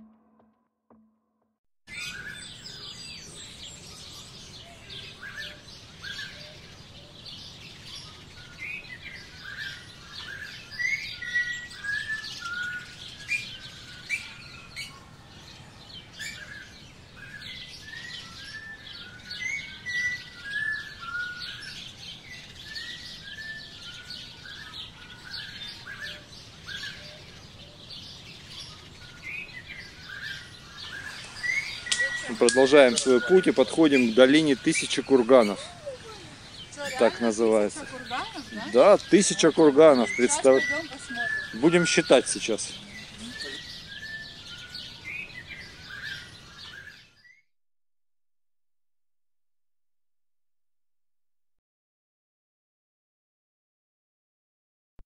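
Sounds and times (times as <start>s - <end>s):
songbirds chirping and trilling: 1.9s - 47.4s.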